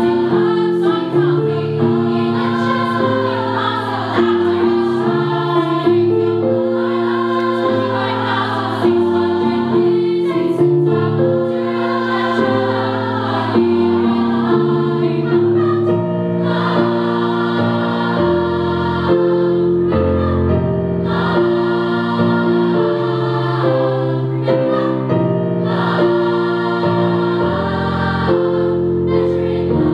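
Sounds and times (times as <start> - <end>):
female choir singing: 0.0 - 29.9.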